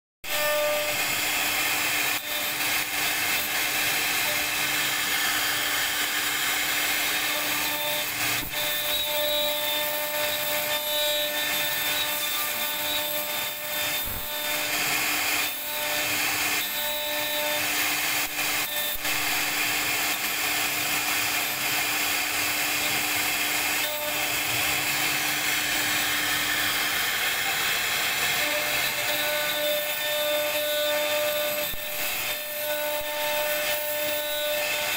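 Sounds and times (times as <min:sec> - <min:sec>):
hiss of wood being cut: 0:00.3 - 0:34.9
router spindle whine: 0:00.3 - 0:34.9.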